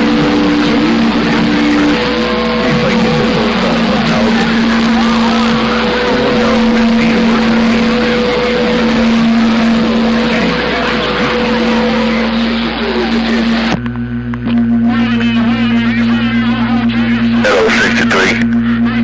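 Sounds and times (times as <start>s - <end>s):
garbled overlapping radio voices: 0.0s - 19.0s
loud radio static hiss: 0.0s - 19.0s.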